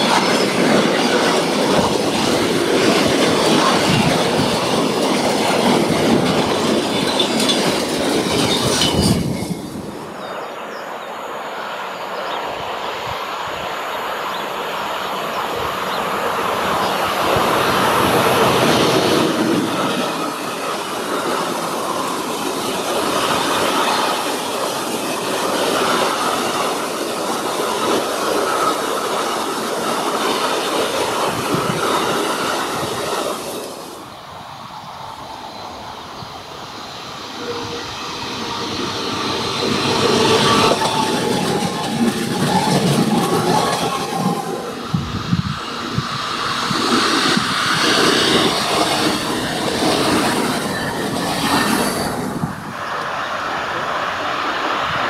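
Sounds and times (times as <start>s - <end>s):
electric train approaching: 0.0s - 55.0s
freight train wheels on rails: 0.0s - 55.0s.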